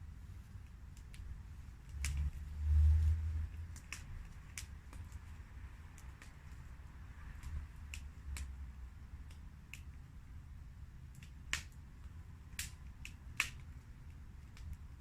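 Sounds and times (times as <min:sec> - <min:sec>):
low steady rumble: 0:00.0 - 0:15.0
campfire crackling and popping: 0:00.5 - 0:02.4, 0:03.3 - 0:15.0.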